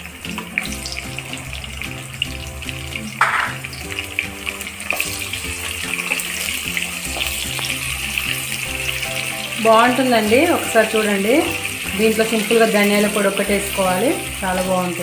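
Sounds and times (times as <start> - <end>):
background music: 0.0 - 15.0
onions sizzling in oil: 0.0 - 15.0.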